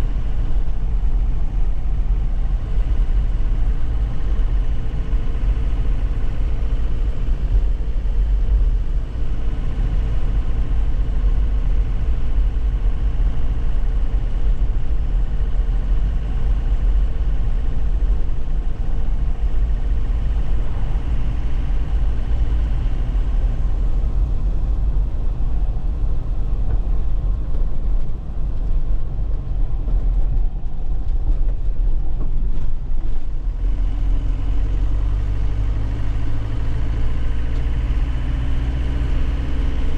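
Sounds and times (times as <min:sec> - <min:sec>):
road noise: 0:00.0 - 0:39.9.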